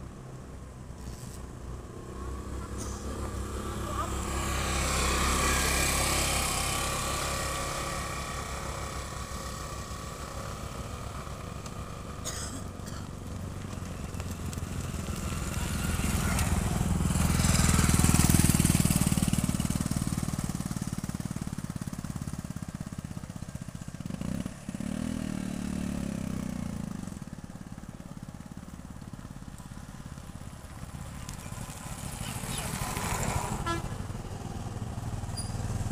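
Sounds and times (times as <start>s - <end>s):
motorcycles passing: 0.0s - 35.9s.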